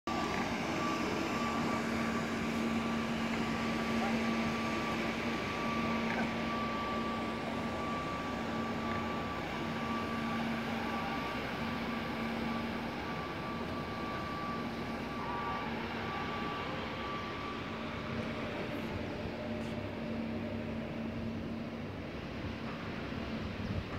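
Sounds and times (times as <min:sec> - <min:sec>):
high steady motor whine: 0:00.1 - 0:23.9
machine motors droning: 0:00.1 - 0:23.9.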